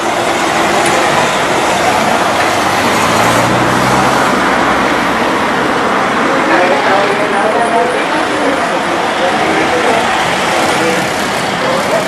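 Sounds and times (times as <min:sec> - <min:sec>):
road traffic noise: 0:00.0 - 0:12.0
vehicle engine humming: 0:00.0 - 0:12.0.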